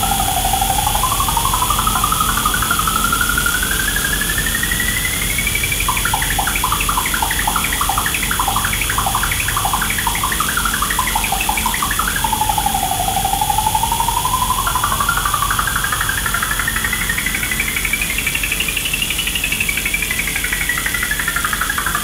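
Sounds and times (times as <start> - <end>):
synthesizer tone gliding and blipping: 0.0 - 18.7
thin high tone: 0.0 - 22.0.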